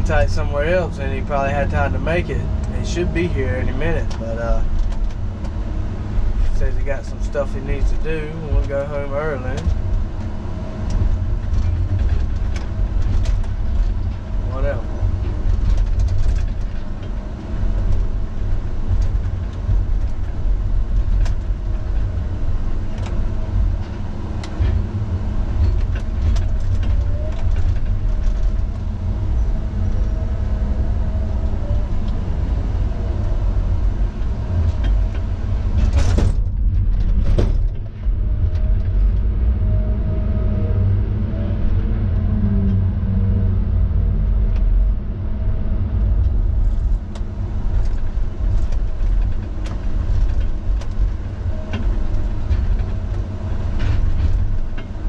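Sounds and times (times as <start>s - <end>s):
diesel engine and hydraulics rumbling: 0.0s - 55.0s.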